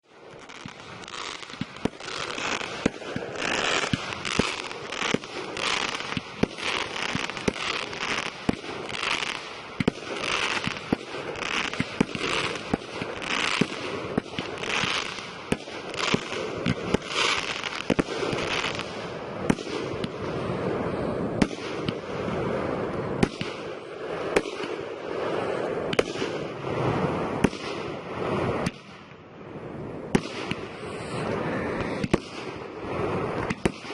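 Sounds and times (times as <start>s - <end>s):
fireworks bangs: 0.0s - 29.2s, 30.0s - 33.9s
fireworks hissing and crackling: 0.0s - 33.9s.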